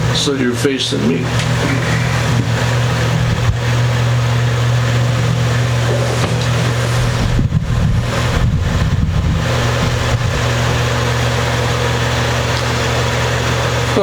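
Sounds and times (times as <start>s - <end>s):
buzzy electrical hum: 0.0s - 14.0s.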